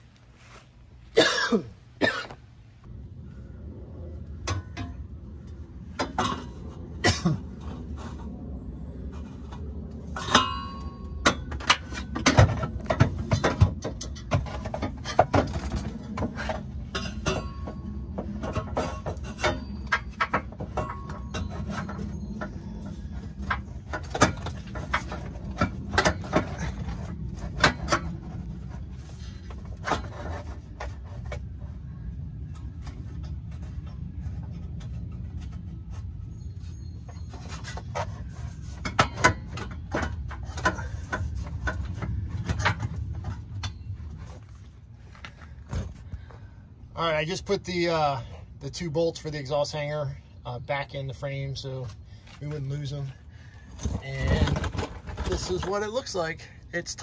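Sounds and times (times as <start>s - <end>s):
steady low hum: 0.0s - 57.0s
metal knocks clicks and scrapes: 4.4s - 8.4s, 9.0s - 31.8s, 32.4s - 46.4s, 51.6s - 56.3s.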